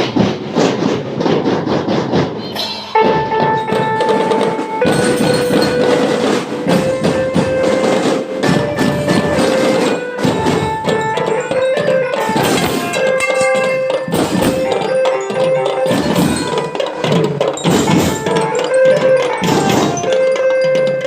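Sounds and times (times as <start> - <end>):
marching band drumming: 0.0 - 21.0
held melody notes: 2.8 - 21.0.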